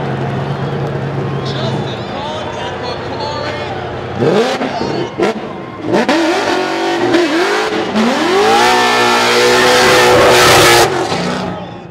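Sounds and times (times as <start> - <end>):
car engines revving hard: 0.0 - 11.9.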